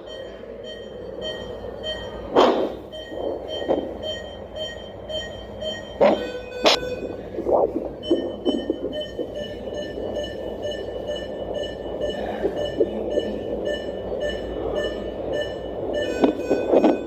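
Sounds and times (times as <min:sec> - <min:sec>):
short electronic beeps: 0:00.0 - 0:17.0
fetal heartbeat whooshing: 0:02.3 - 0:17.0.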